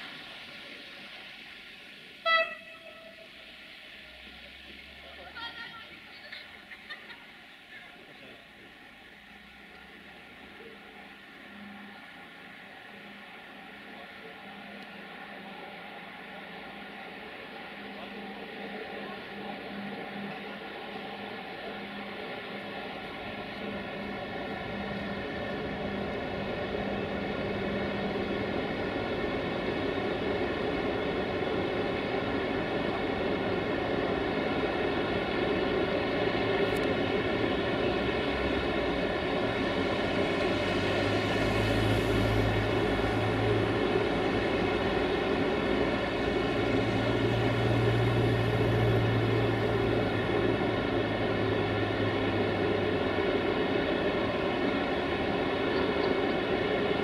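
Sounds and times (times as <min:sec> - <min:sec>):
electric locomotive whine: 0:00.0 - 0:57.0
train rumble: 0:00.0 - 0:57.0.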